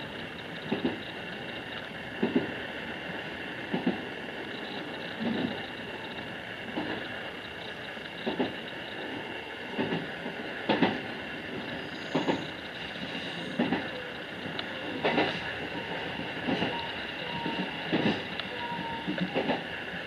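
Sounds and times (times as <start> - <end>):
steady train running noise: 0.0 - 20.0
train wheels clacking over rail joints: 0.3 - 2.5, 3.7 - 9.0, 9.7 - 15.5, 16.4 - 19.7.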